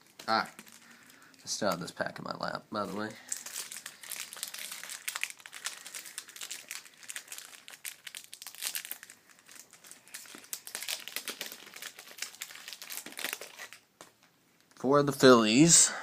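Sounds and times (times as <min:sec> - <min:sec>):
wrapper crinkling: 0:00.0 - 0:02.0, 0:02.8 - 0:14.8.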